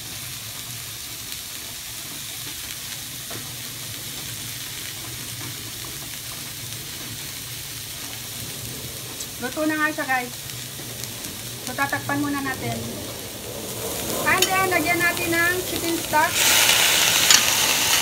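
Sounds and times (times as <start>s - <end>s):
food sizzling on stovetop: 0.0s - 18.0s.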